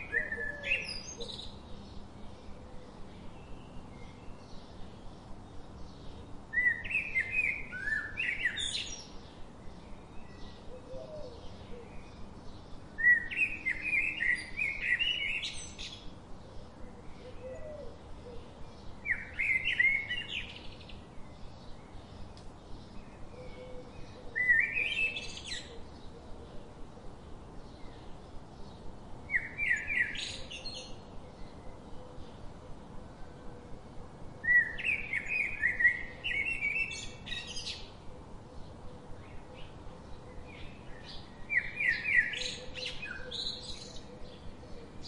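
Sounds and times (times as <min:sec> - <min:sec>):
songbird singing: 0:00.0 - 0:45.0.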